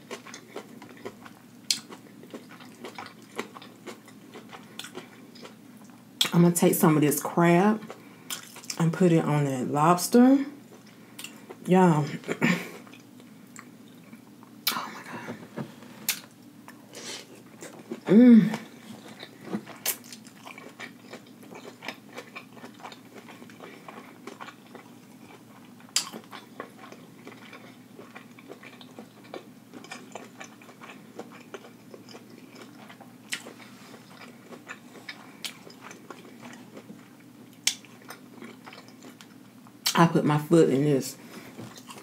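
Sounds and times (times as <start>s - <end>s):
person chewing close up: 0.0s - 6.3s, 7.8s - 8.8s, 10.6s - 11.6s, 12.8s - 14.9s, 16.1s - 40.0s, 41.6s - 42.0s.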